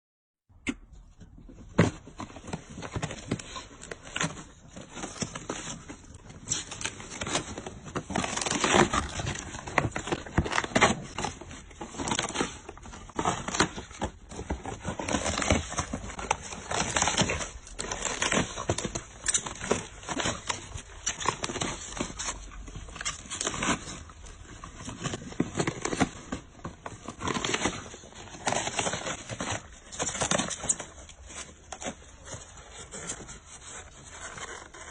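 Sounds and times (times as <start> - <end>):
packaging scraping and crackling: 2.0 - 34.9.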